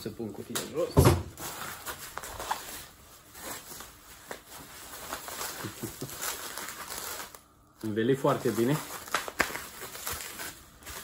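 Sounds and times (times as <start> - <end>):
bubble wrap crinkling: 1.4 - 11.0.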